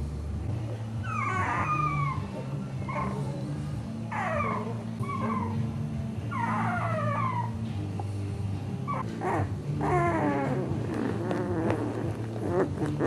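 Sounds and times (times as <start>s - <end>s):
puppies whimpering and squealing: 0.9s - 8.2s, 8.8s - 13.0s.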